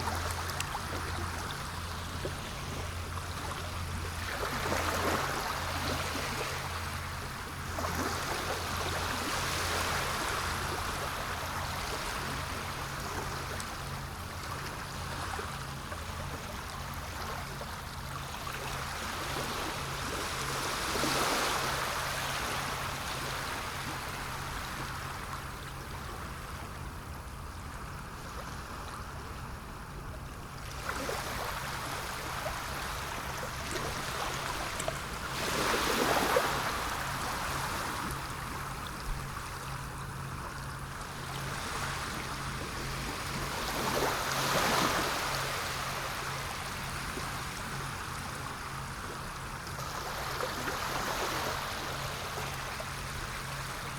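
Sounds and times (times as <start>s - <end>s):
sea waves washing in: 0.0s - 53.9s
steady low hum: 0.0s - 53.9s.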